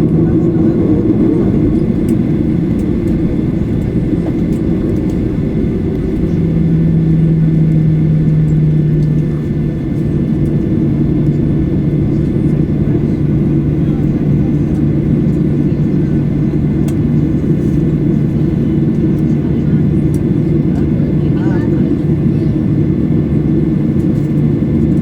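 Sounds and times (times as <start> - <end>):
low rumble of aircraft engines: 0.0 - 25.0
steady hum: 0.0 - 25.0.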